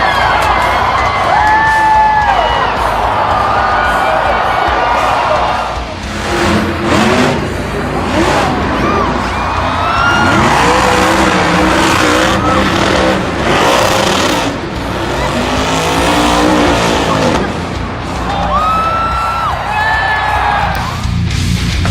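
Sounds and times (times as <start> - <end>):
monster truck engine revving: 2.8 - 21.9.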